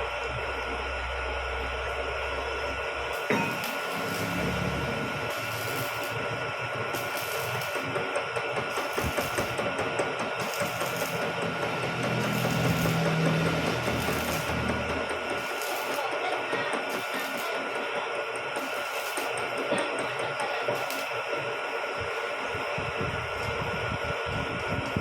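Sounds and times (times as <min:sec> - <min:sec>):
milling machine motor whine: 0:00.0 - 0:25.0.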